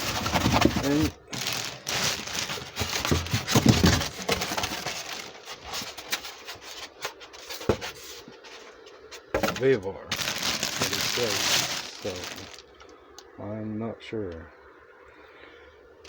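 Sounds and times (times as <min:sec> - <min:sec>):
packaging rustling and crinkling: 0:00.0 - 0:12.9.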